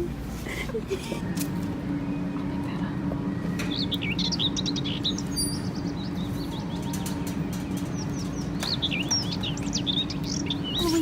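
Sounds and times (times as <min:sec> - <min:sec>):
steady low hum: 0:00.0 - 0:11.0
small birds chirping: 0:01.9 - 0:11.0.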